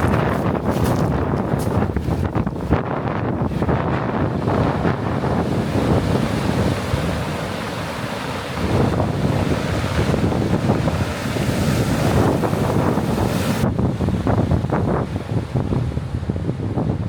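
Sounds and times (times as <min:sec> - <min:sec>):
ocean surf breaking: 0:00.0 - 0:16.6
wind buffeting microphone: 0:00.0 - 0:17.0.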